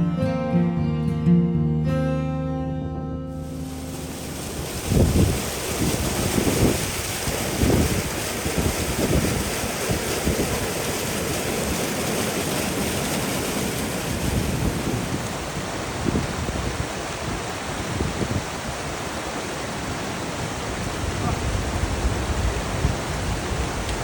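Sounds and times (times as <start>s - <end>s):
fast-flowing water rushing: 3.4s - 24.0s
wind buffeting microphone: 3.5s - 24.0s.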